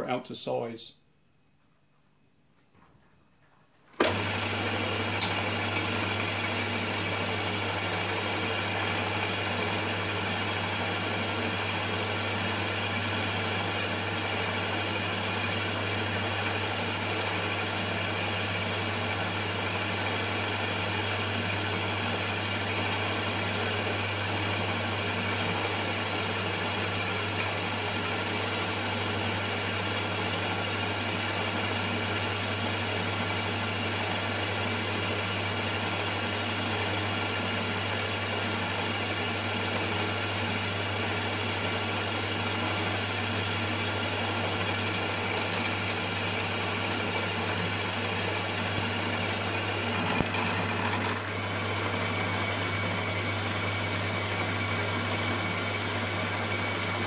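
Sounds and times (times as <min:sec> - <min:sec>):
milling machine motor hum: 0:04.0 - 0:57.0.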